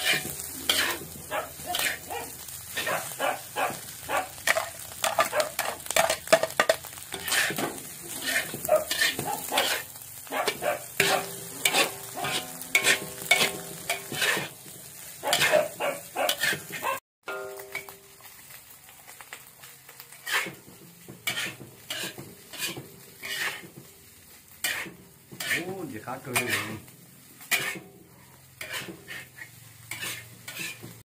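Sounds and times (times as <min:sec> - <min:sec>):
metal spatula scraping wok: 0:00.0 - 0:18.5, 0:20.1 - 0:31.0
food sizzling: 0:00.0 - 0:31.0.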